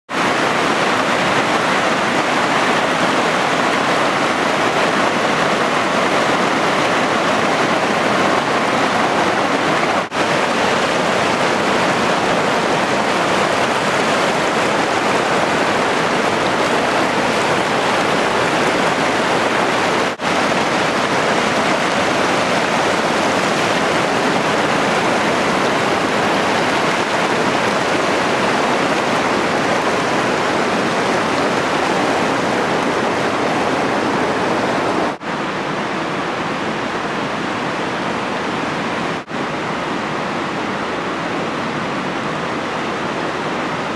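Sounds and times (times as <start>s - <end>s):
water rushing over rapids: 0.1s - 43.9s.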